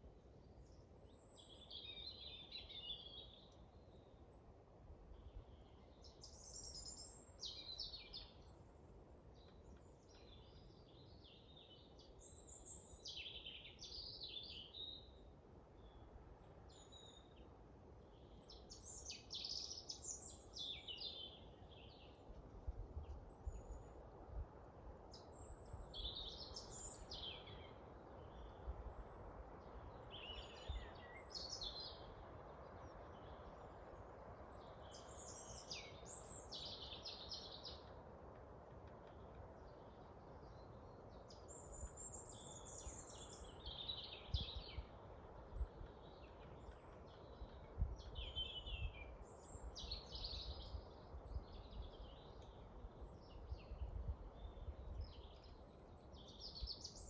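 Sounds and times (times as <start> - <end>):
low rumble of wind: 0.0 - 57.0.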